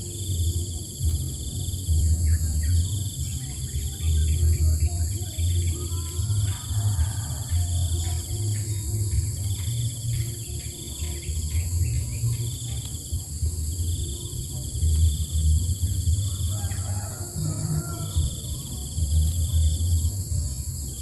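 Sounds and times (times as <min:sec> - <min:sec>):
high insect drone: 0:00.0 - 0:21.0
insects trilling: 0:00.0 - 0:21.0
low rumble: 0:00.0 - 0:21.0.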